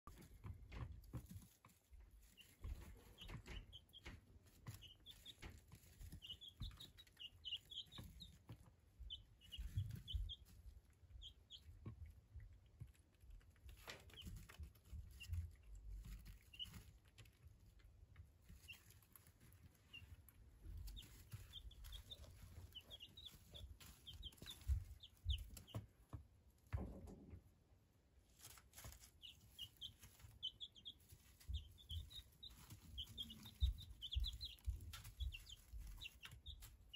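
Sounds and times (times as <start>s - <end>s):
chicks peeping: 0.0s - 27.4s, 28.2s - 36.9s.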